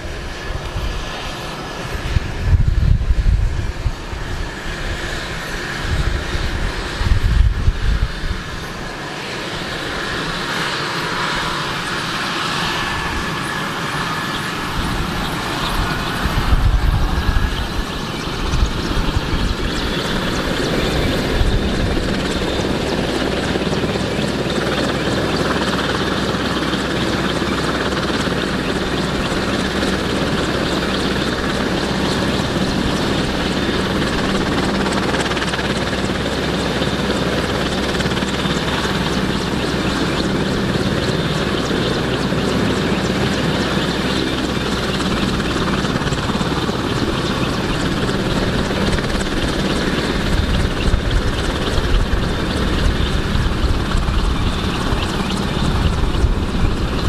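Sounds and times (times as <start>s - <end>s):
helicopter rotor and engines: 0.0s - 57.0s
high turbine whine: 0.0s - 57.0s.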